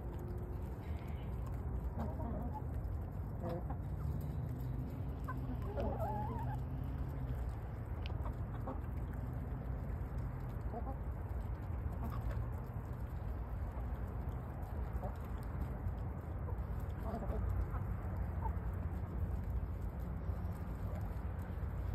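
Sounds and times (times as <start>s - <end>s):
hens clucking: 0.0s - 21.9s.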